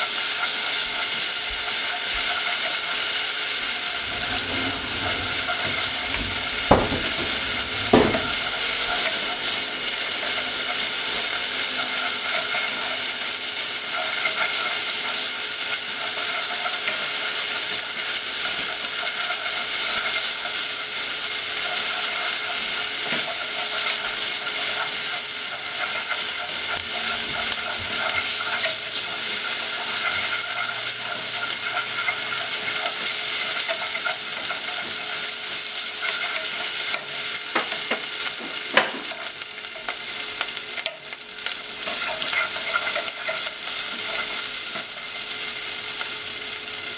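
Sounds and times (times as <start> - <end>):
bacon sizzling in a pot: 0.0 - 46.9.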